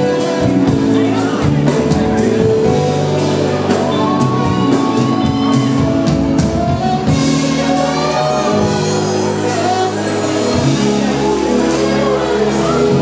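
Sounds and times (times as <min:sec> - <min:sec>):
drum kit: 0:00.0 - 0:13.0
electric bass: 0:00.0 - 0:13.0
sliding lead melody: 0:00.0 - 0:13.0.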